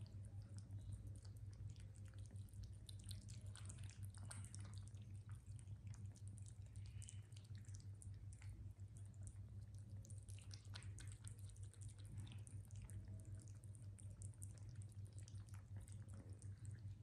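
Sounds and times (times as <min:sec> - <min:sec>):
cats licking liquid: 0:00.0 - 0:17.0
low hum: 0:00.0 - 0:17.0.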